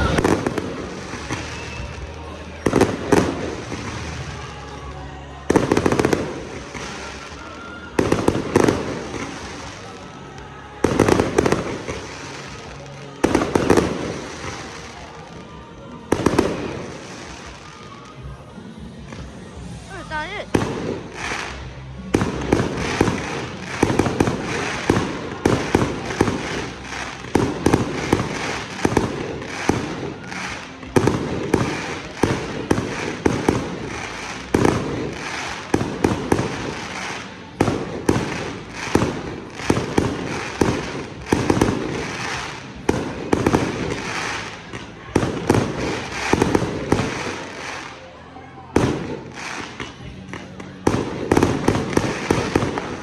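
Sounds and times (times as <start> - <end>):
fireworks banging and crackling: 0.0 - 53.0.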